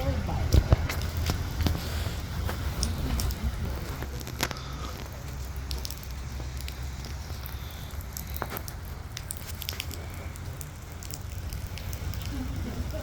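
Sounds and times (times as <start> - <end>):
wind rumbling on microphone: 0.0 - 13.0
light clicks and crackles: 0.5 - 13.0.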